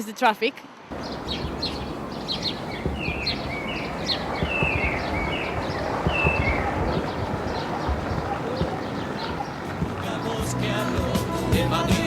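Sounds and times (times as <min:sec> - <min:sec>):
steady background noise: 0:00.9 - 0:11.5
birds chirping: 0:00.9 - 0:12.0.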